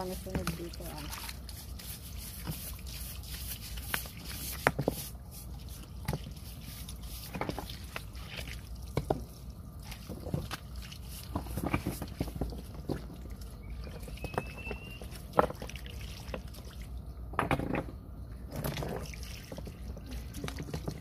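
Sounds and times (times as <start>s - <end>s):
wet mud dripping and squishing: 0.0s - 17.0s.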